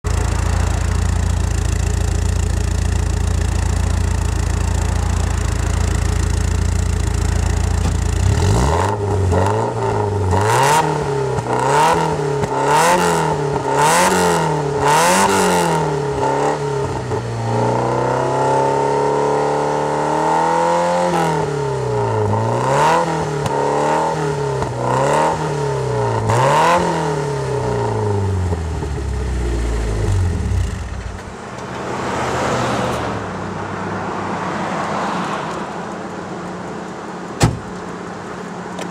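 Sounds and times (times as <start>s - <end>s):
car exhaust idling and revving: 0.0s - 32.6s, 35.5s - 38.9s.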